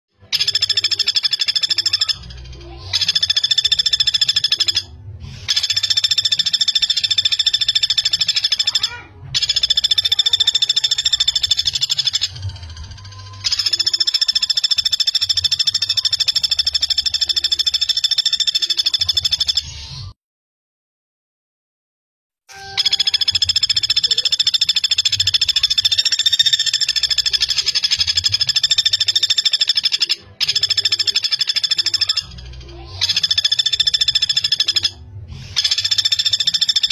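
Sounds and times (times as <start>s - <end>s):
woodpecker fast trills: 0.2s - 4.9s, 5.5s - 19.7s, 22.5s - 36.9s.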